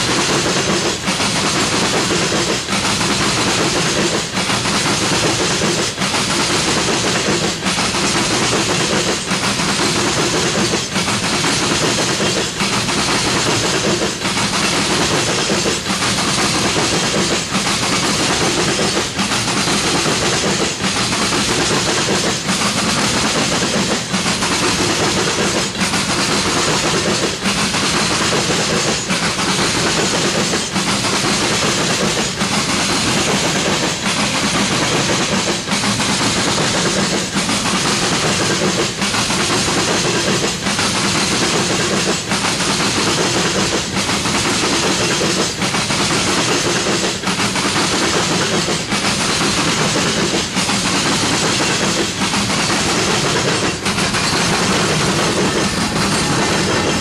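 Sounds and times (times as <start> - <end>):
rail clack: 0.0 - 57.0
train wheels rumbling on track: 0.0 - 57.0.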